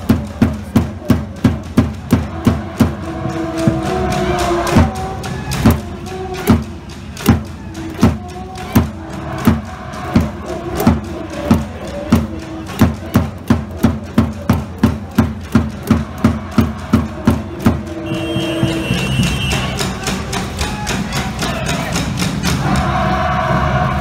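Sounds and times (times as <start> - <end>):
drum beaten in deep thumps: 0.0 - 23.1.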